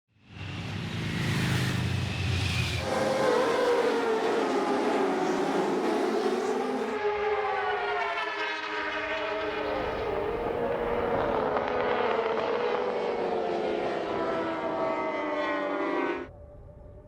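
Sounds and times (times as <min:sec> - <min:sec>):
motorcycle engines revving: 0:00.3 - 0:16.3.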